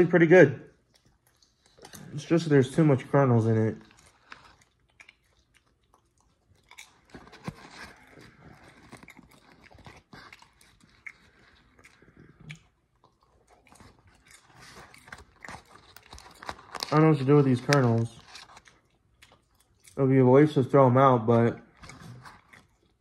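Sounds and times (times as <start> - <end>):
chewing crunchy popcorn: 0.0 - 23.0.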